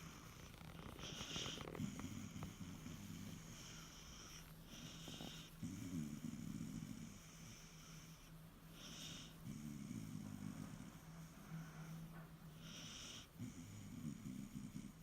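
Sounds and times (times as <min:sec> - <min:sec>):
dog snoring quietly: 0:00.0 - 0:15.0.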